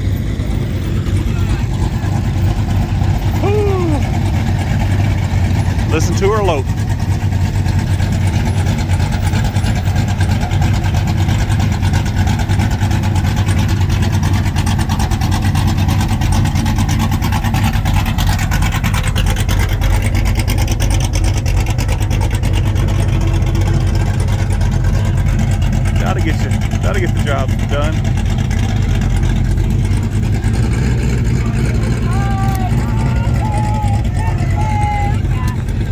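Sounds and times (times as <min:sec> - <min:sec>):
truck engine idling with choppy lope: 0:00.0 - 0:35.9.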